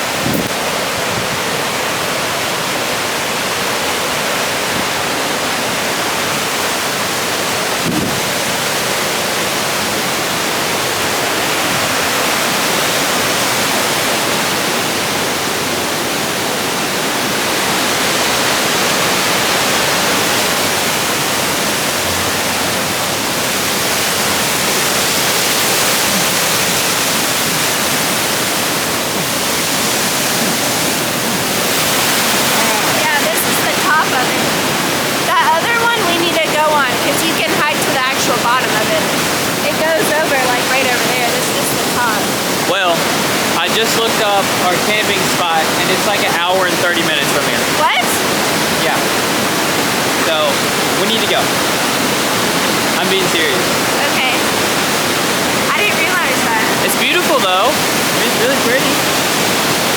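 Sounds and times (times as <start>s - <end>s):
rush of whitewater and waterfall: 0.0s - 59.9s.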